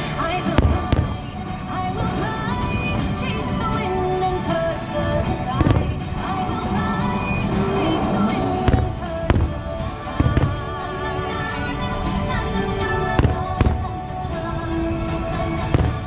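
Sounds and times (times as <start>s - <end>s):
fireworks bursting: 0.0s - 16.0s
soundtrack music: 0.0s - 16.0s.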